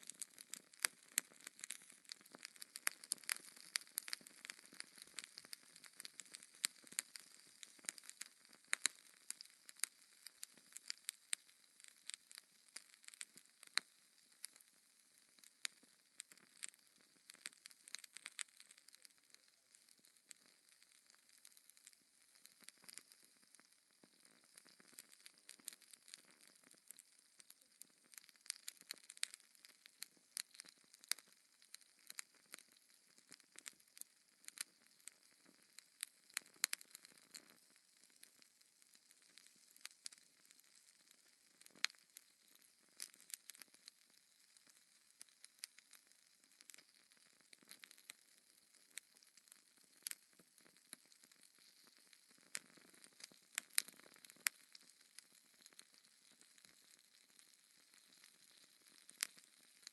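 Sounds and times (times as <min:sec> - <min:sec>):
wood fire crackling: 0:00.0 - 0:14.6, 0:15.2 - 0:59.9.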